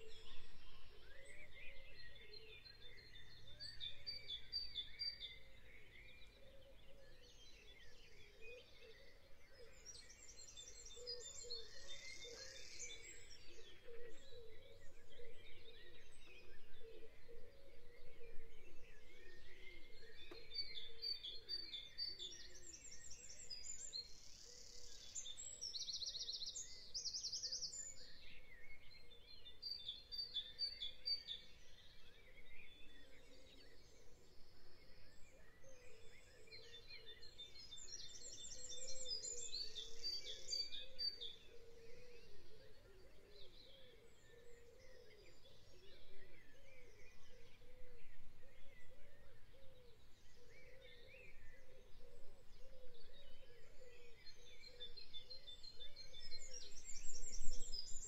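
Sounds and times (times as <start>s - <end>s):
faint birds chirping and trilling: 0.0s - 58.0s.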